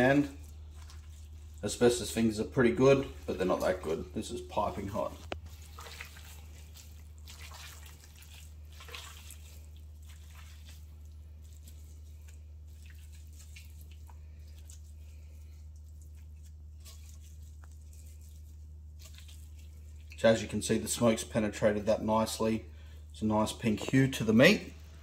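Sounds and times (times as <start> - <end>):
meat squelching and tearing: 0.0 - 22.1
steady low hum: 0.0 - 25.0.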